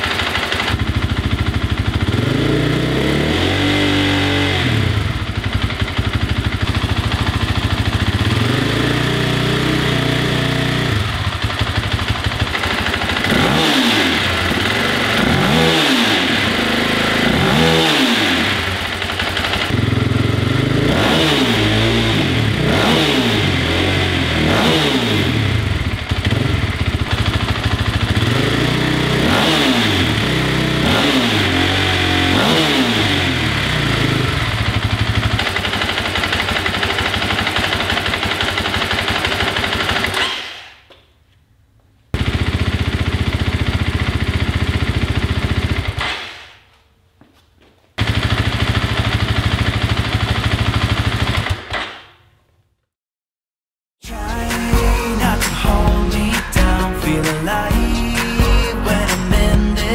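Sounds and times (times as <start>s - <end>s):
motorcycle engine idling and revving: 0.0s - 41.2s, 42.1s - 46.7s, 48.0s - 52.4s, 54.2s - 59.9s.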